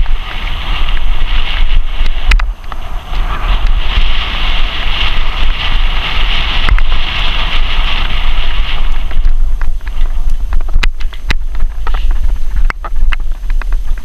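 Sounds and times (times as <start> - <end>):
bicycle rattling over road: 0.0 - 14.0
wind buffeting microphone: 0.0 - 14.0.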